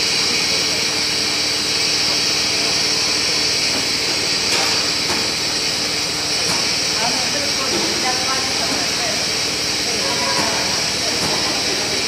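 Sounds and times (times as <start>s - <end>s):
machine hissing: 0.0s - 12.0s.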